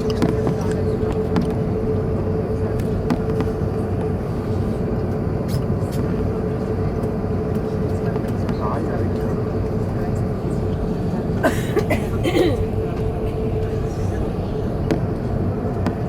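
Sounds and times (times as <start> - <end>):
aircraft engine rumble: 0.0 - 16.0.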